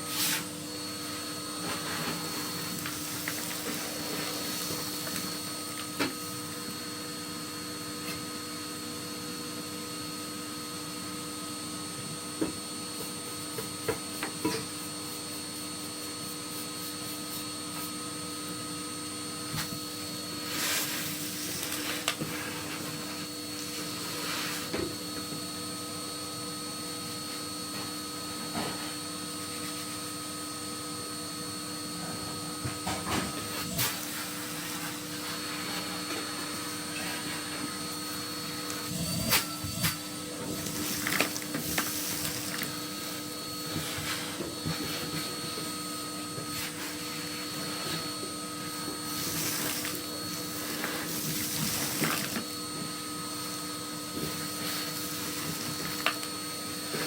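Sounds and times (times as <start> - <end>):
vacuum motor whine: 0.0 - 57.0.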